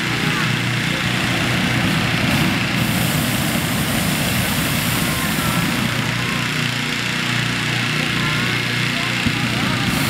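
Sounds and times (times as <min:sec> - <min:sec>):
crowd chatter: 0:00.0 - 0:10.0
propane burner roaring: 0:00.0 - 0:10.0.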